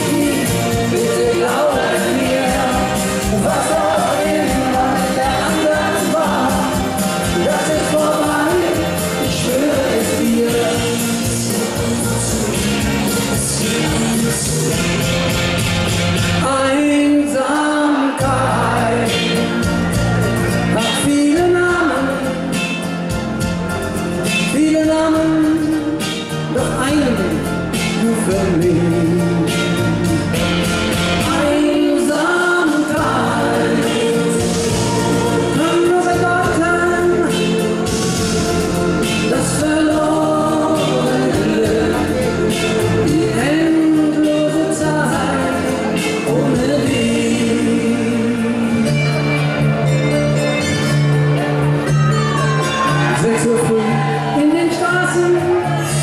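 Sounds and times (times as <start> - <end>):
band playing steady beat: 0.0 - 16.7, 18.2 - 56.0
man singing pop song: 0.0 - 50.1, 51.8 - 56.0.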